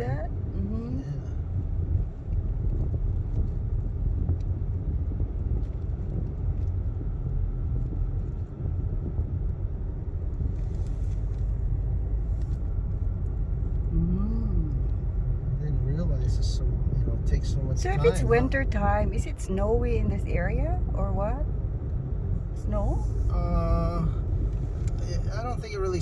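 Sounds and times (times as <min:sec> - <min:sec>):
car driving rumble from inside: 0:00.0 - 0:26.0.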